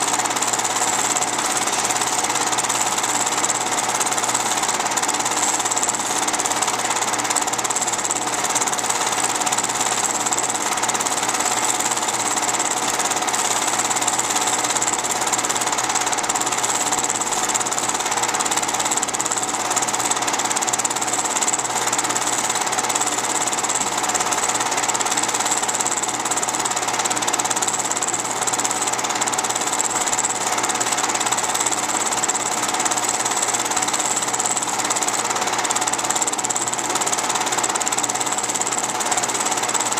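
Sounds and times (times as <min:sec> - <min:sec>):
film projector rattle and whirr: 0:00.0 - 0:39.9.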